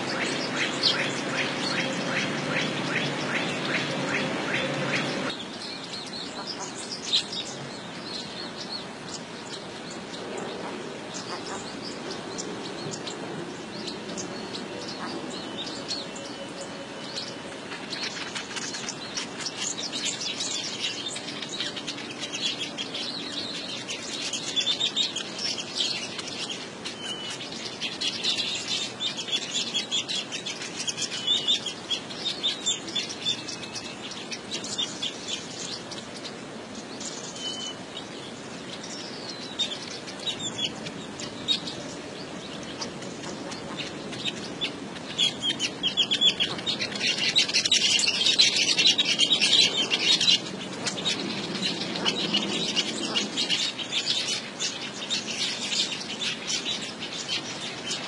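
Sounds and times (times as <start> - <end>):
birds chattering: 0.0 - 58.0.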